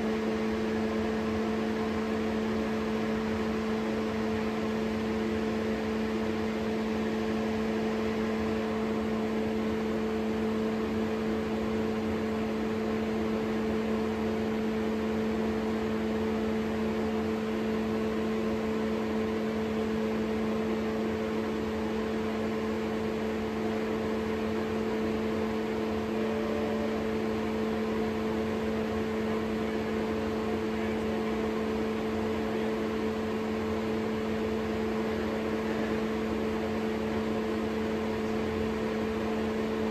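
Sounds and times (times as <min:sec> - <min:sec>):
exhaust fan air rush: 0:00.0 - 0:39.9
two-tone low hum: 0:00.0 - 0:39.9.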